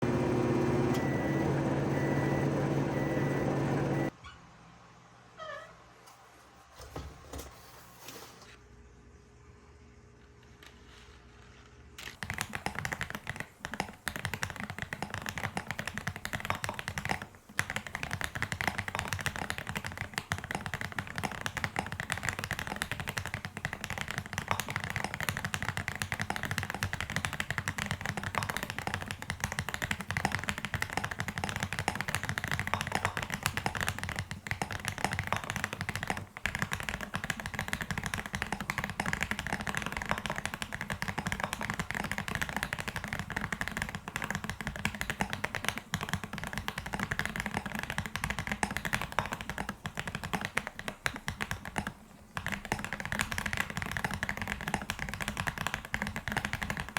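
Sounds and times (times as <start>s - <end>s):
mechanical keyboard typing: 0.0s - 4.2s, 12.1s - 56.9s.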